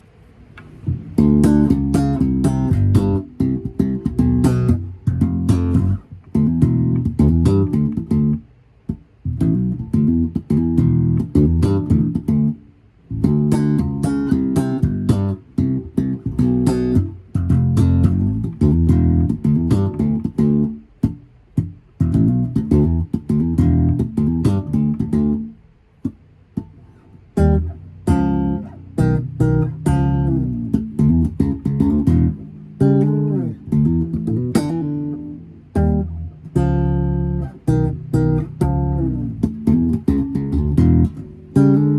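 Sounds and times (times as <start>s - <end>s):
slap bass guitar: 0.0s - 41.9s.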